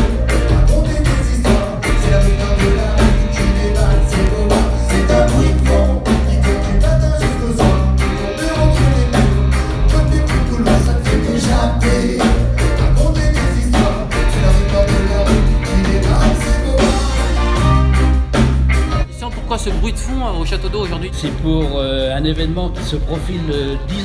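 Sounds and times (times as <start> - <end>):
person singing lead vocal: 0.0 - 18.3, 22.6 - 24.0
reggae band playing: 0.0 - 24.0.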